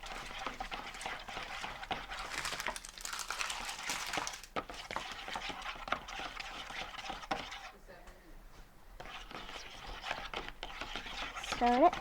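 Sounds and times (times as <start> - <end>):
stirrer scraping container: 0.0 - 7.9, 8.6 - 12.0.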